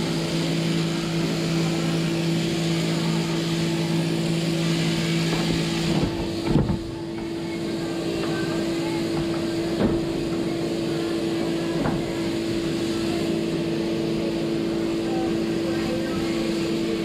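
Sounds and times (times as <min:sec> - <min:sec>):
shearing machine motor hum: 0:00.0 - 0:17.0.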